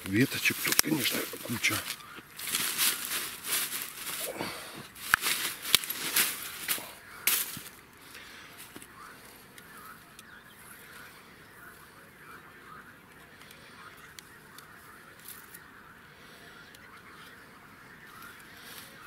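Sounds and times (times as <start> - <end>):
rustling and crackling twigs: 0.0 - 19.0.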